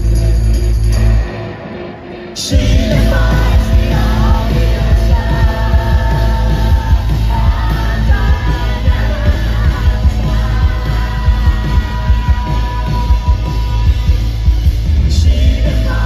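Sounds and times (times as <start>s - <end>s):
rock band playing: 0.0s - 16.0s
man singing: 2.3s - 16.0s
steady drum beat: 2.5s - 16.0s.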